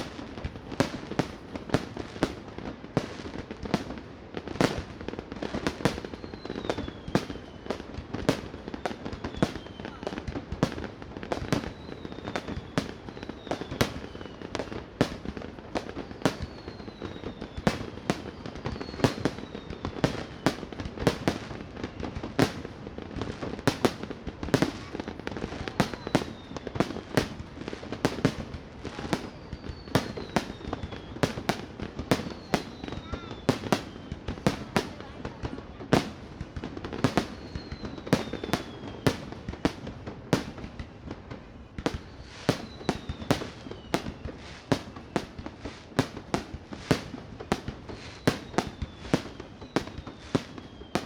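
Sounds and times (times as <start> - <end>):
fireworks bangs: 0.0 - 51.0
falling firework whistles: 5.6 - 10.8, 11.4 - 22.7, 23.7 - 36.2, 36.8 - 51.0.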